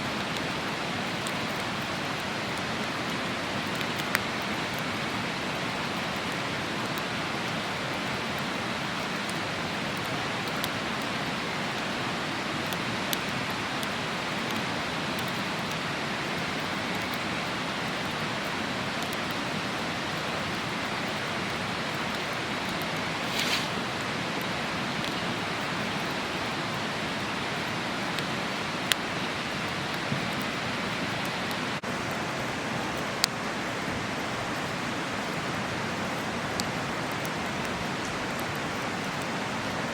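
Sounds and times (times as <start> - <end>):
campfire crackling and popping: 0.0 - 39.9
river rushing: 0.0 - 39.9.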